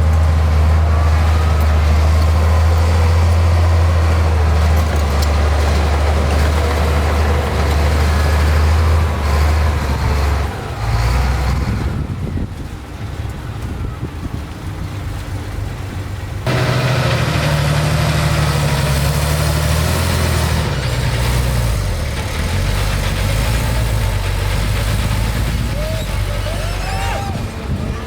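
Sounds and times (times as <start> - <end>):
diesel machinery engine drone: 0.0 - 28.0.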